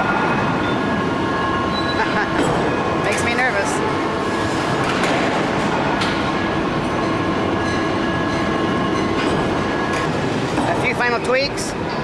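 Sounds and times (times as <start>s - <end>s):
heavy machinery rumble and drone: 0.0s - 12.0s.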